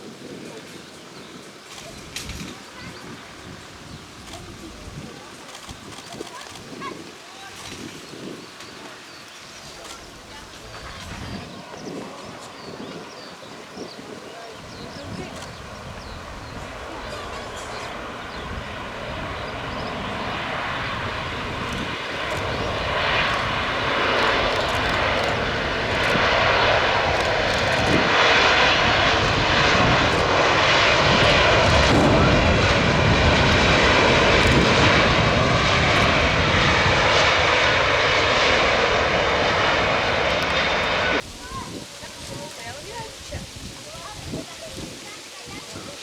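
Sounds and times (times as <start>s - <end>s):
aircraft engines: 0.0s - 46.0s.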